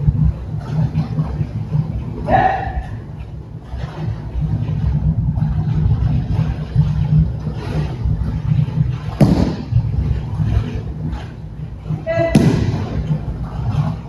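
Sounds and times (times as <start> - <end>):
low rumble of air noise: 0.0 - 14.0.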